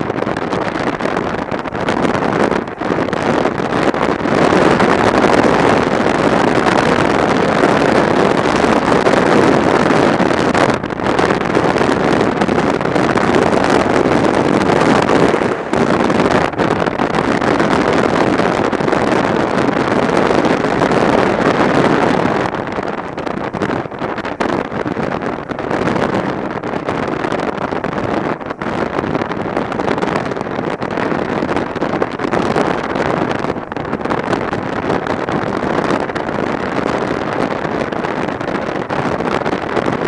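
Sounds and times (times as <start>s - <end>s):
motorcycle road noise: 0.0s - 40.0s
wind rush over microphone: 0.0s - 40.0s.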